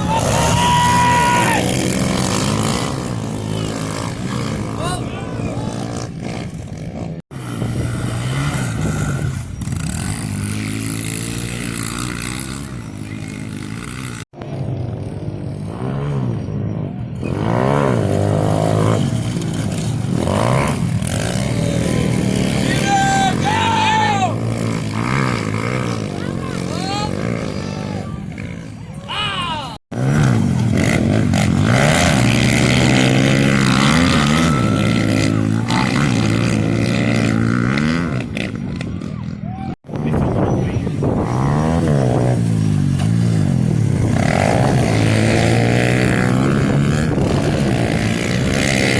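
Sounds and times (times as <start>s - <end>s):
small motorbike engines revving: 0.0s - 48.9s.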